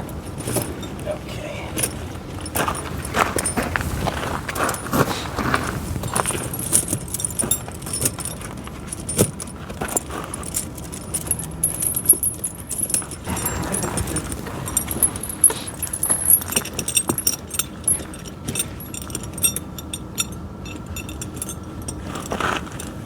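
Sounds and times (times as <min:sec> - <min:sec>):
chain links jangling: 0:00.0 - 0:23.0.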